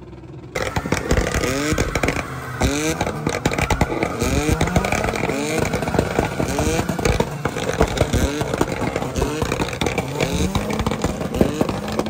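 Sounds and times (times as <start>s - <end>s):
truck engine revving: 0.6s - 12.0s
tyre spinning on tarmac: 0.6s - 12.0s.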